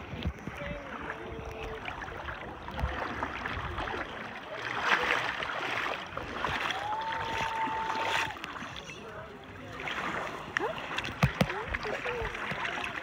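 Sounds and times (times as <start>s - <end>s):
shallow sea water sloshing: 0.0s - 13.0s.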